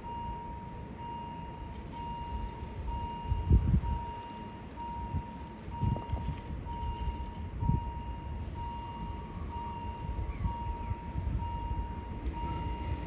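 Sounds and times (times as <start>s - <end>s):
level crossing warning tone: 0.0s - 13.0s.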